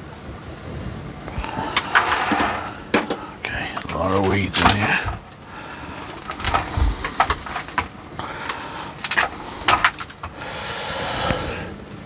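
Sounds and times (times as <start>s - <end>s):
needles and grass rustling: 0.0s - 10.6s.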